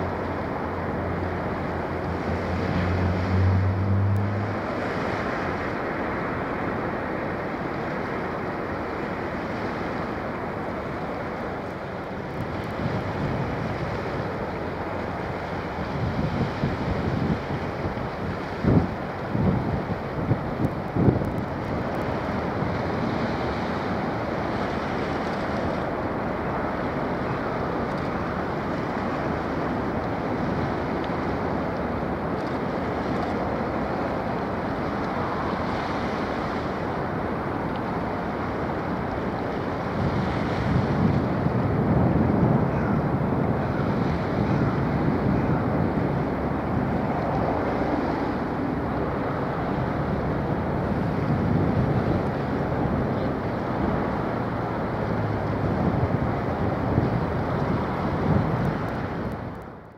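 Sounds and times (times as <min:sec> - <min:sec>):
bow wave breaking along hull: 0:00.0 - 0:59.9
ship passing with rumble and wash: 0:00.0 - 0:59.9
wind on microphone: 0:09.5 - 0:59.9.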